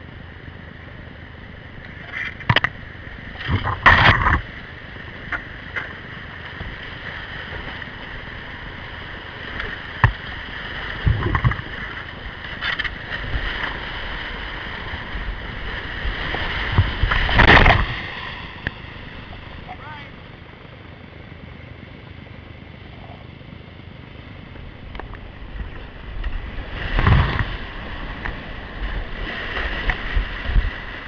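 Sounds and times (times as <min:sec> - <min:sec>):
whitewater roaring: 0:00.9 - 0:20.4, 0:24.0 - 0:31.0.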